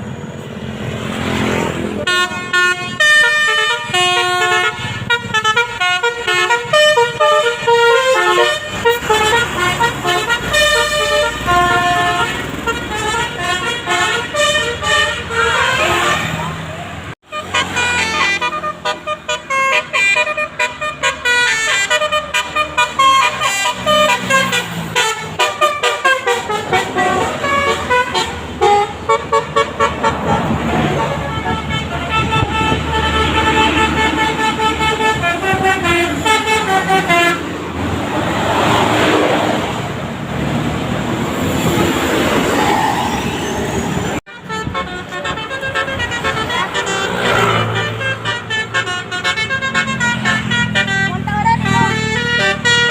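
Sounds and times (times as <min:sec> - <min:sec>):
musical bus horn tune: 0:01.4 - 0:39.4, 0:43.6 - 0:52.9.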